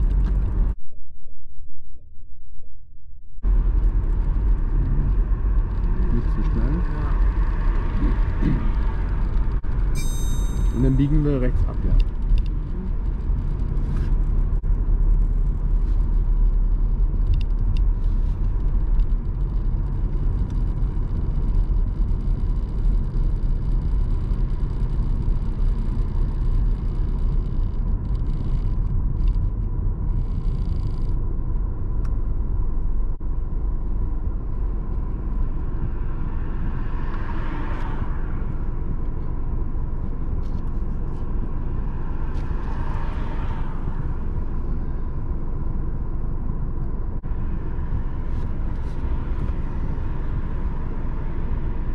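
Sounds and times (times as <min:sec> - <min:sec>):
car engine and tyre rumble: 0:00.0 - 0:00.8, 0:03.4 - 0:51.9.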